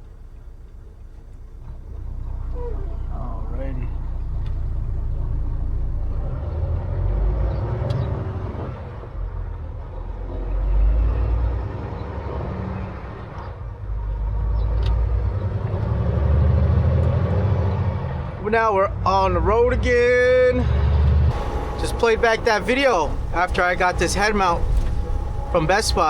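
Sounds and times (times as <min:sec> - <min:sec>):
road noise: 0:00.0 - 0:26.0
truck diesel engine rumble: 0:00.0 - 0:26.0.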